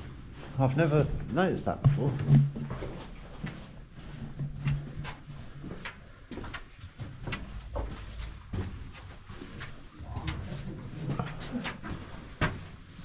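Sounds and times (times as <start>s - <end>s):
footsteps and scuffs: 1.9s - 13.0s.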